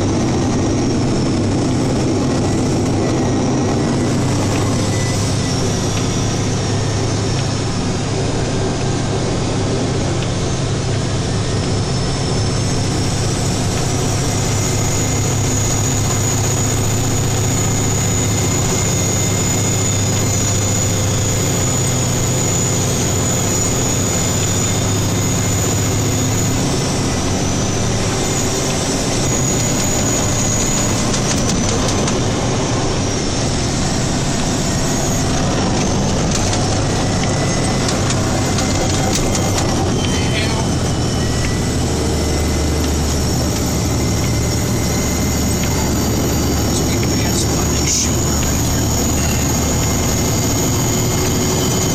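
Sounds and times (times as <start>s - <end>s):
truck engine and road drone: 0.0s - 51.9s
thin high whine: 0.4s - 51.9s.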